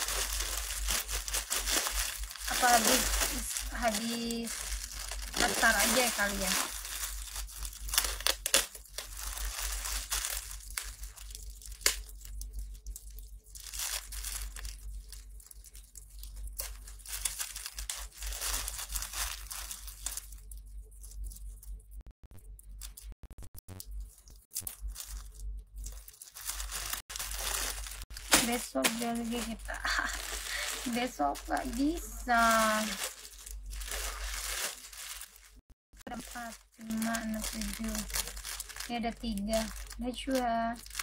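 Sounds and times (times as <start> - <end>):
plastic packaging crinkling: 0.0 - 21.8, 24.0 - 41.0.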